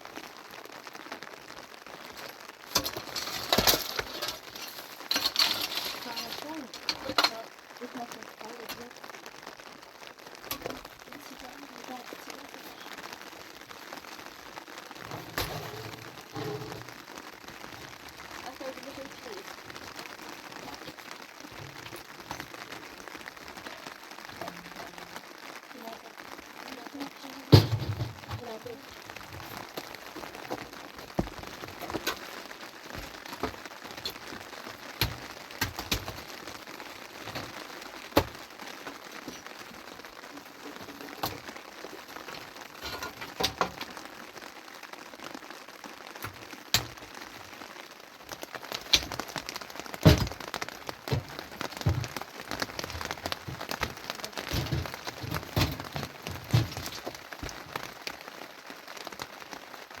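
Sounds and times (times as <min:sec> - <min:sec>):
steady rain: 0:00.0 - 1:00.0
sharp cracks and knocks: 0:02.0 - 0:07.5, 0:10.0 - 0:11.1, 0:12.8 - 0:25.6, 0:27.4 - 0:44.6, 0:45.2 - 0:59.6.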